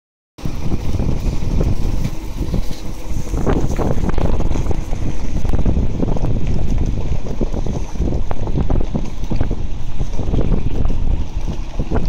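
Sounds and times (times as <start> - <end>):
vehicle engine rumbling: 0.4 - 12.0
wind buffeting microphone: 0.4 - 12.0.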